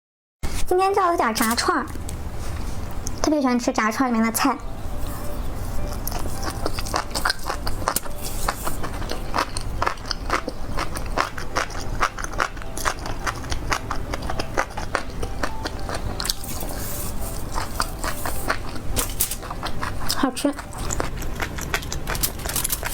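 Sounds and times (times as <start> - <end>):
steady low hum: 1.2 - 22.9
chewing and crunching fried food: 4.2 - 22.9.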